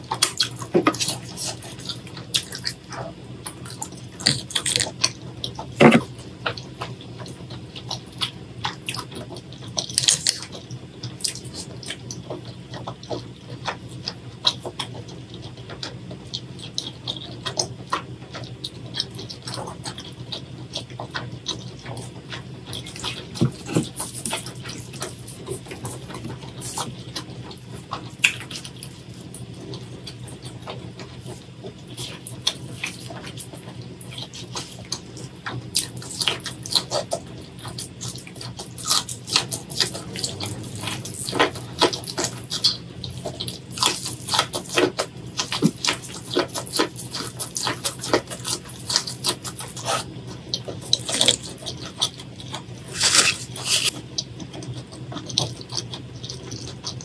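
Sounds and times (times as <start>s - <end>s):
wet chewing and mouth sounds: 0.0s - 57.0s.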